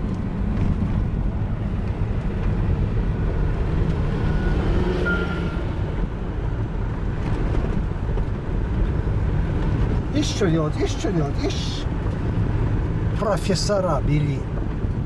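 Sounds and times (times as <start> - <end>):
car driving on gravel: 0.0 - 4.1, 5.9 - 15.0.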